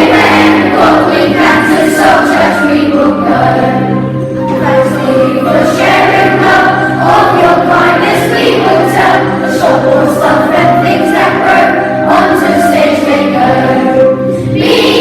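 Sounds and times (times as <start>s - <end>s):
children's choir singing: 0.0s - 15.0s
musical accompaniment with low notes: 0.0s - 15.0s.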